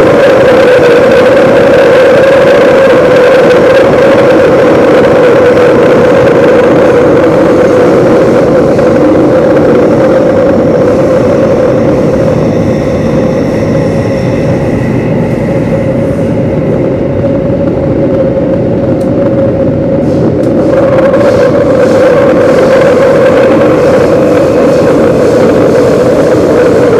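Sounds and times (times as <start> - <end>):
faint high whine: 0.0 - 26.9
train rumbling in tunnel: 0.0 - 26.9.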